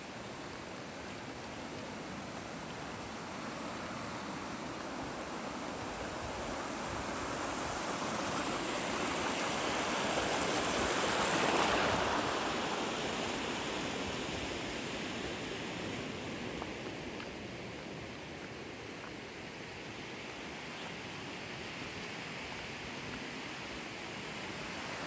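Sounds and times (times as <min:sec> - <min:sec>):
water rushing over stones: 0:00.0 - 0:25.0.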